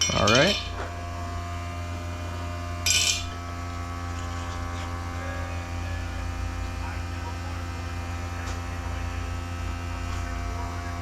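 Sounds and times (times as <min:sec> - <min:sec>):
air compressor humming: 0:00.0 - 0:11.0.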